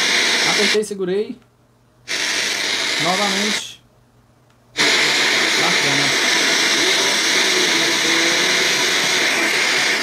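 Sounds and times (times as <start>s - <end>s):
radio static hiss: 0.0s - 1.2s, 2.1s - 3.8s, 4.7s - 10.0s.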